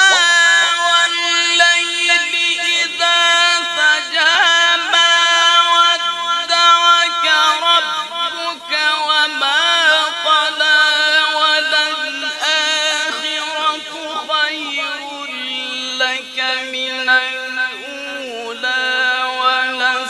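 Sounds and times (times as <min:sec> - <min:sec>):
man singing sustained notes: 0:00.0 - 0:20.0.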